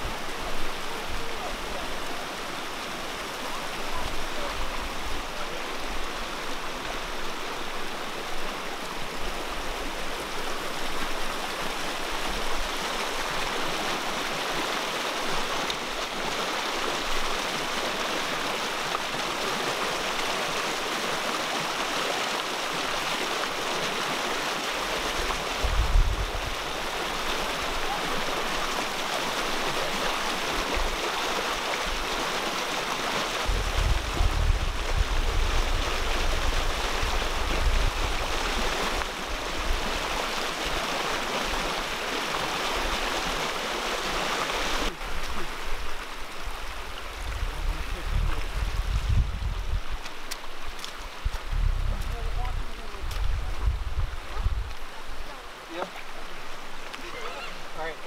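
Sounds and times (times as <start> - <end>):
floodwater running over gravel: 0.0 - 58.0.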